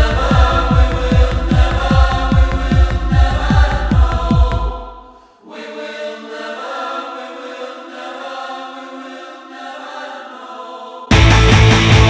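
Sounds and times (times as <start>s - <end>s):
sustained choir-like chords: 0.0s - 12.0s.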